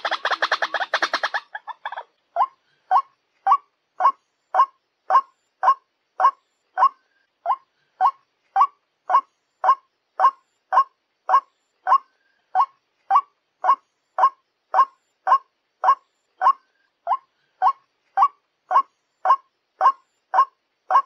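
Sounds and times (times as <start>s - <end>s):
waterhen call: 0.0s - 21.0s.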